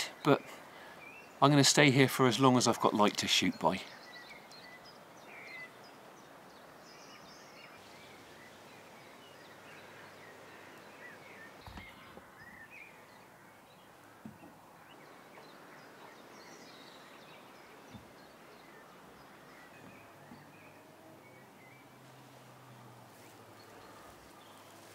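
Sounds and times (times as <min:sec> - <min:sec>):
birdsong chirping: 0:00.0 - 0:24.9.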